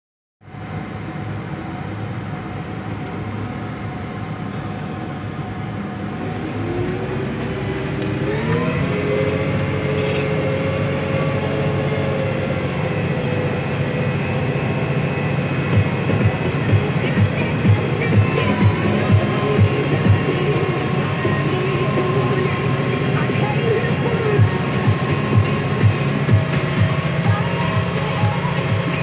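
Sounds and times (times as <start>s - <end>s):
tractor diesel engine running: 0.4s - 29.0s.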